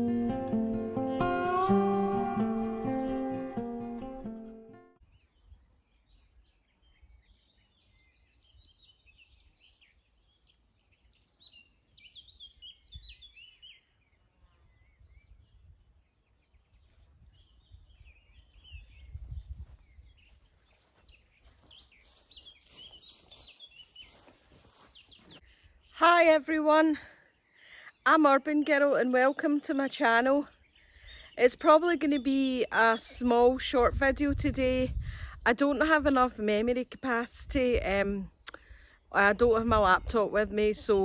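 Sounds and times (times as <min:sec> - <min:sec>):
birds chirping and trilling: 0:01.9 - 0:41.0.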